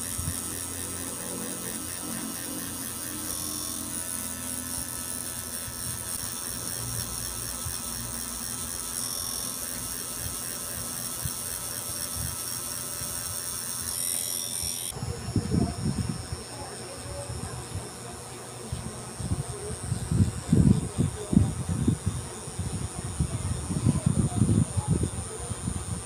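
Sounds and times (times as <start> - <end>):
tattoo machine buzzing: 0.0 - 26.0.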